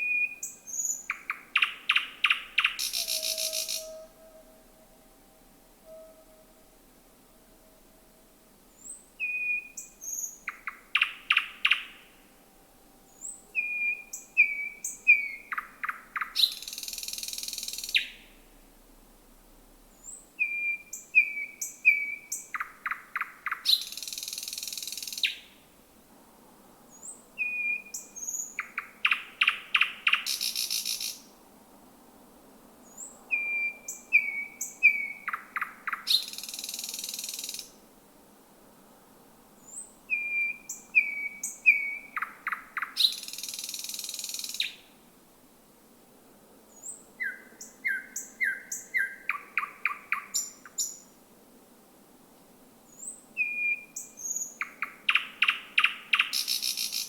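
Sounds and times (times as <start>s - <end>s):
nightingale singing: 0.0s - 18.4s, 20.0s - 25.6s, 26.9s - 31.4s, 32.8s - 37.8s, 39.6s - 45.0s, 46.7s - 51.2s, 52.9s - 57.0s.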